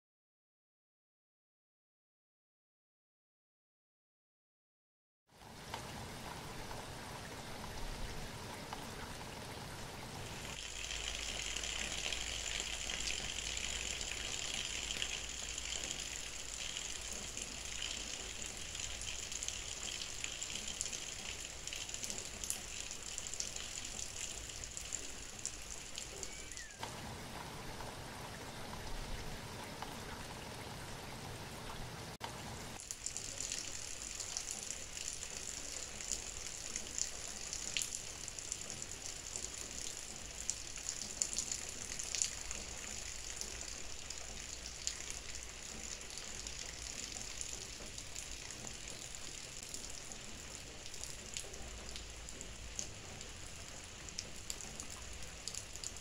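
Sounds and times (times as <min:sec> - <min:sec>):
steady rain falling: 0:05.4 - 0:56.0.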